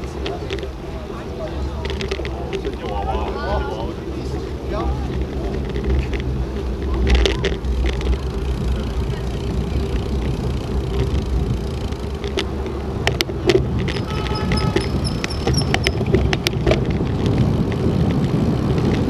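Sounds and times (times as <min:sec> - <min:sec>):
vehicle rumble from on board: 0:00.0 - 0:19.0.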